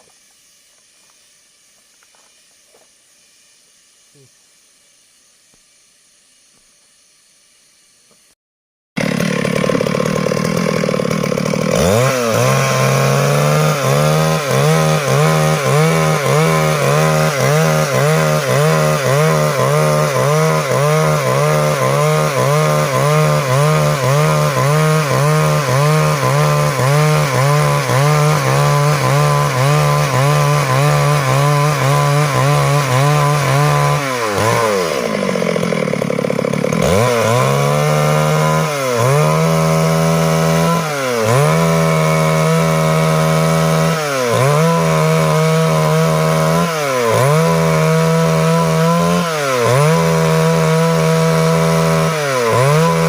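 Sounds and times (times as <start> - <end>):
chainsaw cutting wood: 9.0 - 53.0.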